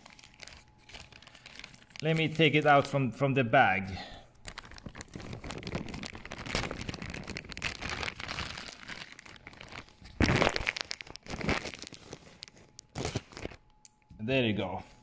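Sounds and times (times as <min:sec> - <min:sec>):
plastic bag crinkling: 0:00.0 - 0:03.0, 0:04.4 - 0:13.8.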